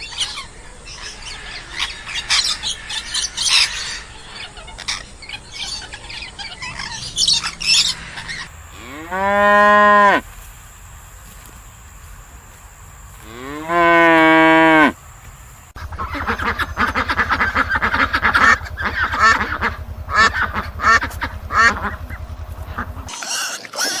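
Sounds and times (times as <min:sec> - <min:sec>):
flock of birds calling: 0:00.0 - 0:24.0
steady low hum: 0:00.4 - 0:23.1
long low animal call: 0:01.4 - 0:24.0.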